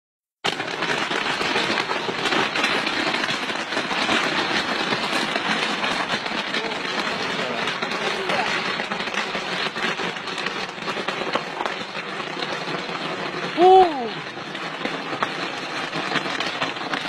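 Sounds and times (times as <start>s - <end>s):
fireworks crackling: 0.4s - 17.0s.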